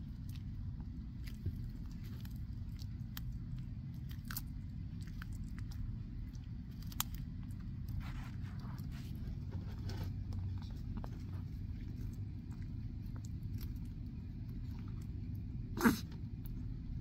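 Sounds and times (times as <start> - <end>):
low rumble: 0.0 - 17.0
tortoises crunching cactus: 0.0 - 17.0.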